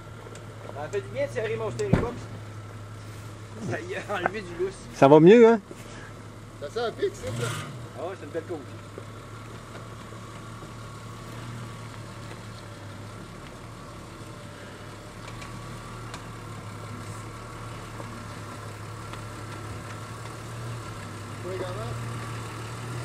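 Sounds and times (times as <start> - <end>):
car engine running low: 0.0 - 23.0.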